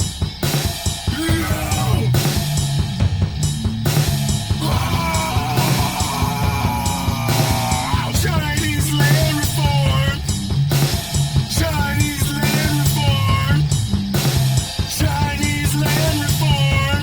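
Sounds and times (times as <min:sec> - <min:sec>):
rock band playing: 0:00.4 - 0:17.0.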